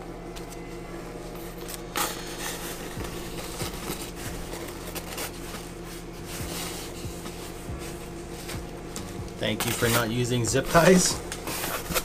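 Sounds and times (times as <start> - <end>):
steady low hum: 0.0 - 12.0
packing material crinkling: 1.6 - 8.6, 9.4 - 12.0.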